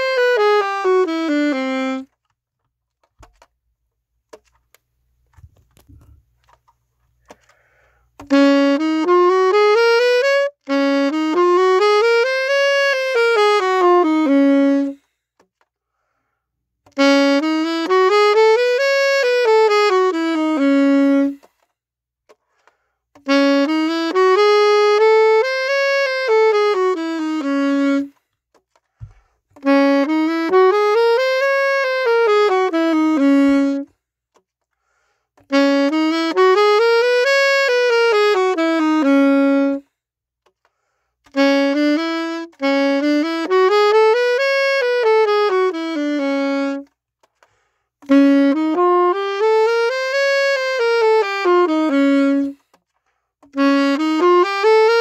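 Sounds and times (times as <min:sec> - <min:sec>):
saxophone playing scales: 0:00.0 - 0:03.5, 0:04.3 - 0:55.0.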